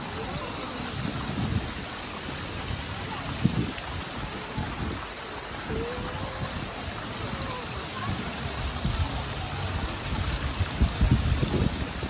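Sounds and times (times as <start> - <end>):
steady watery hiss: 0.0 - 12.0
water splashing in a pool: 0.0 - 12.0.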